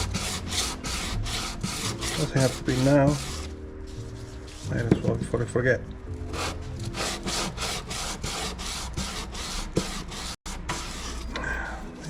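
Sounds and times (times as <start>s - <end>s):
sandpaper scratching on metal: 0.0s - 5.0s, 6.3s - 12.0s.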